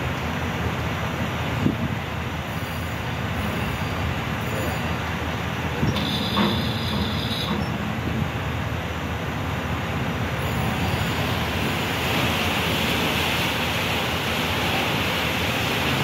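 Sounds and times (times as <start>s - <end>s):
propeller wash churning water: 0.0s - 16.0s.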